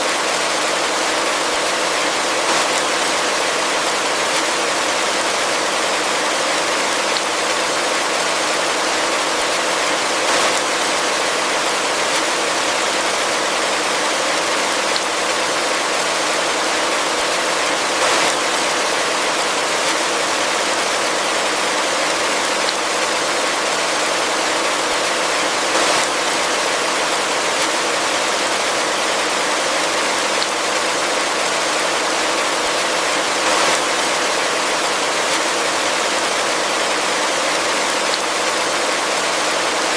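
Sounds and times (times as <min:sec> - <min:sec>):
heavy rain in a forest: 0:00.0 - 0:39.9.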